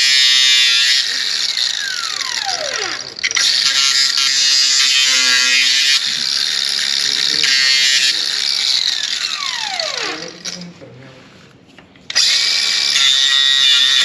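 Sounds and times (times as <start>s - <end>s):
angle grinder on steel: 0.0s - 10.8s, 12.1s - 14.0s.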